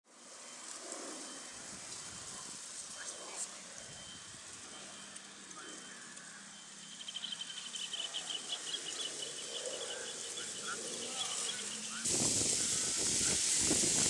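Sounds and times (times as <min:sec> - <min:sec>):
insect chirping trill: 0:00.1 - 0:14.0
loud steady hiss: 0:00.1 - 0:14.0.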